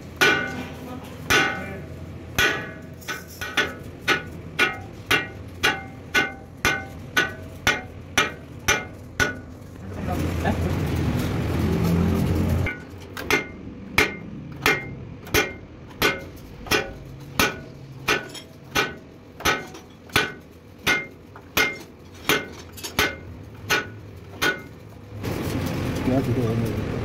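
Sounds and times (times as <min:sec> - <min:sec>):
hammer striking metal: 0:00.0 - 0:09.8, 0:12.6 - 0:25.0.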